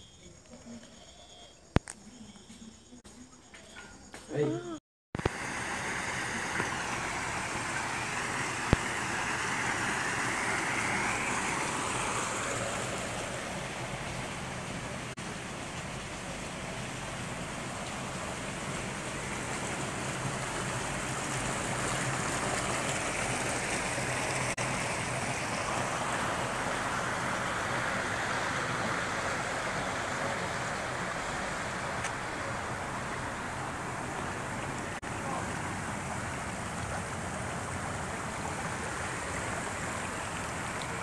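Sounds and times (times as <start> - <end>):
stream water rushing: 5.2 - 41.0.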